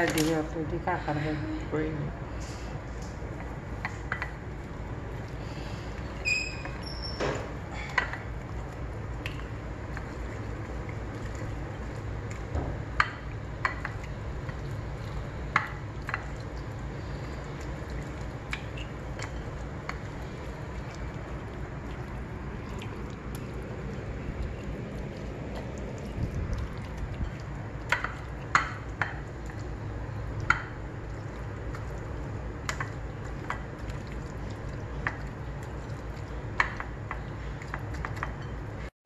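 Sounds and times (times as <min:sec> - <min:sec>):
steady low hum: 0:00.0 - 0:38.9
hands mixing wet fish: 0:02.3 - 0:38.9.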